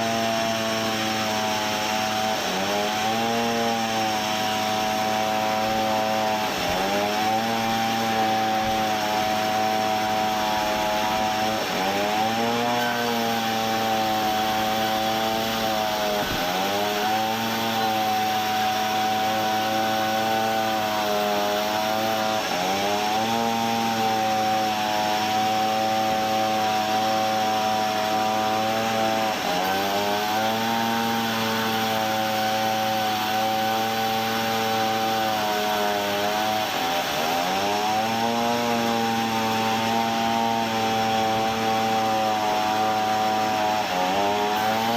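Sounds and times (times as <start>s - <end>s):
sawmill saw running: 0.0s - 44.9s.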